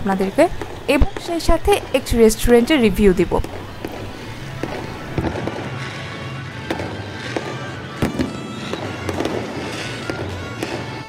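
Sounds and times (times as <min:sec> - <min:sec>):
background music: 0:00.0 - 0:11.0
fireworks bangs and pops: 0:00.4 - 0:11.0.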